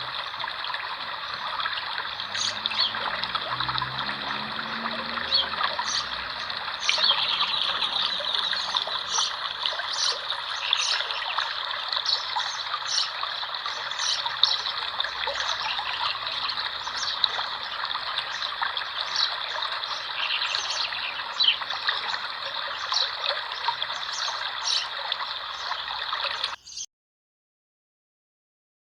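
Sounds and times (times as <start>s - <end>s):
spring water trickling: 0.0s - 26.6s
small birds chirping: 1.4s - 3.2s, 5.1s - 26.9s.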